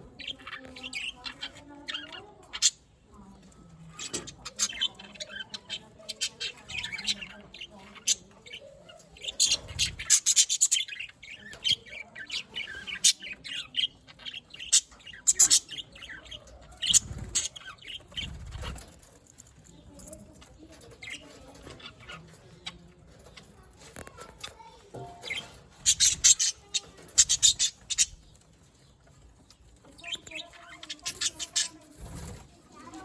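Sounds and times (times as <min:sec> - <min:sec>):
budgies chirping and squawking: 0:00.0 - 0:33.0.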